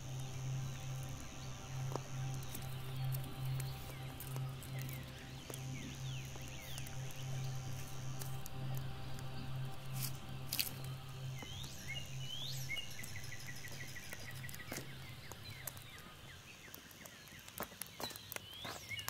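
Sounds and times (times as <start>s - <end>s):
insects trilling: 0.0s - 18.8s
birds chirping: 0.0s - 19.0s
campfire crackling and popping: 0.0s - 19.0s.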